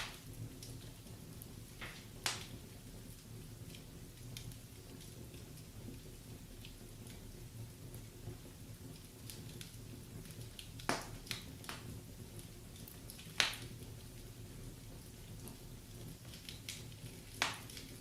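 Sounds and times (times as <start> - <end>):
fire pops: 0.0 - 7.3, 8.0 - 18.0
wood fire crackling: 0.0 - 18.0.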